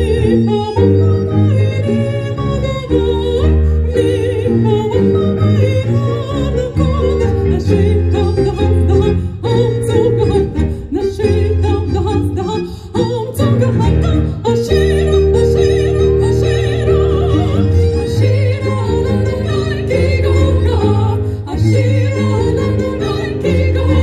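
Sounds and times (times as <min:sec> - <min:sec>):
violin cello and piano: 0:00.0 - 0:24.0
woman singing with vibrato: 0:00.0 - 0:24.0.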